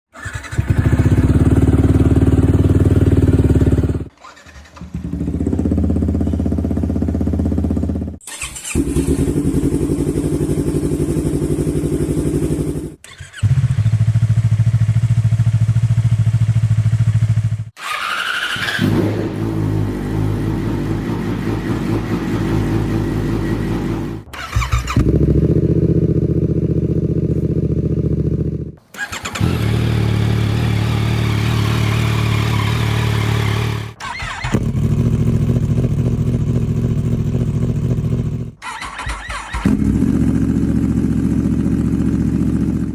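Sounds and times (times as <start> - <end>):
motorcycle engines running: 0.5 - 4.1, 4.8 - 17.7, 18.8 - 38.6, 39.6 - 42.9.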